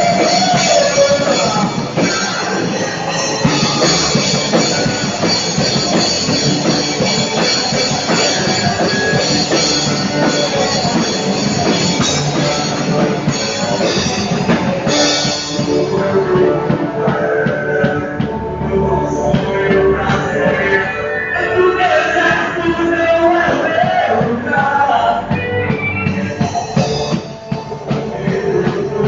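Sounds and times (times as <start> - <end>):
gospel rock band playing: 0.0 - 29.0.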